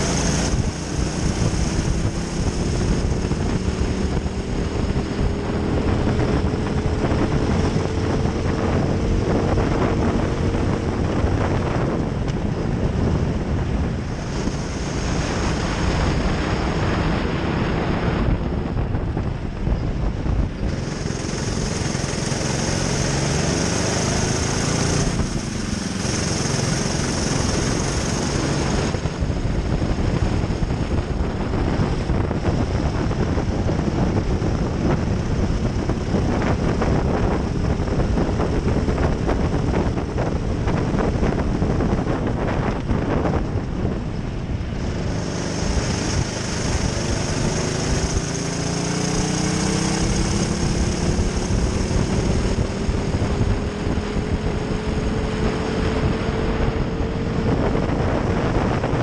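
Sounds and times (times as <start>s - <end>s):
heavy rushing noise: 0.0s - 59.0s
kart engine running hard: 0.0s - 59.0s.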